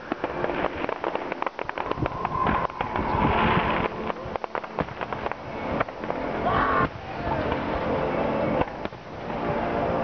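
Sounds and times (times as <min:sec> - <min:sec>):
fireworks bangs and crackles: 0:00.0 - 0:10.0
fireworks hissing: 0:00.0 - 0:10.0.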